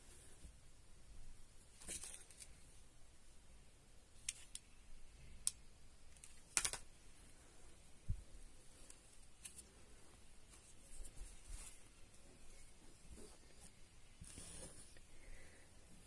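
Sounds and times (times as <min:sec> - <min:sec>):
soft rustle: 0:00.0 - 0:03.0, 0:06.1 - 0:16.0.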